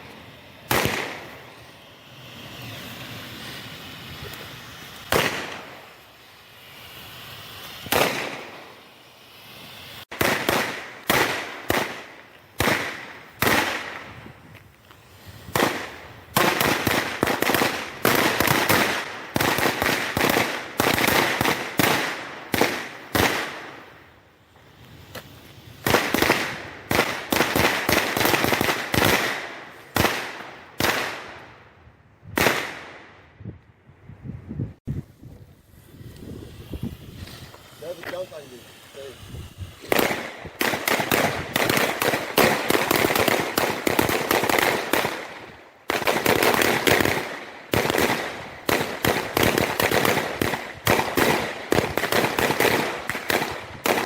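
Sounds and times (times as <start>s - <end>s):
fireworks bangs echoing: 0.0s - 31.6s, 32.3s - 33.2s, 35.7s - 54.0s.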